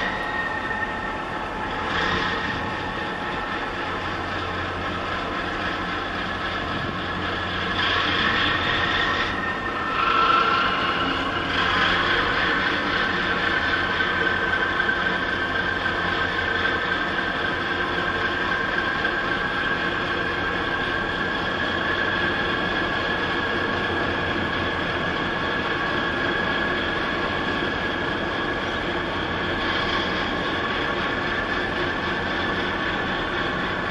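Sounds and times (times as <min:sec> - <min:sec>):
high whining tones: 0:00.0 - 0:33.9
ship machinery drone: 0:00.0 - 0:33.9.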